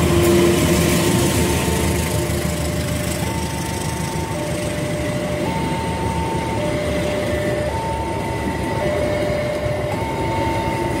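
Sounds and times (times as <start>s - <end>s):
train coaches rumbling past: 0.0s - 11.0s
two-tone crossing alarm: 0.0s - 11.0s.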